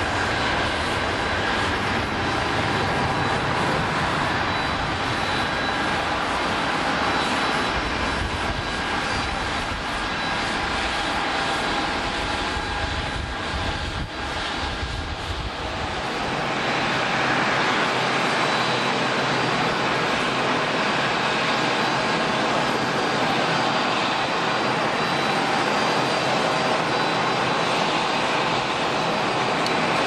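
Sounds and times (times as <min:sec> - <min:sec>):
airliner engines roaring: 0:00.0 - 0:30.0
thin high engine whine: 0:00.0 - 0:30.0.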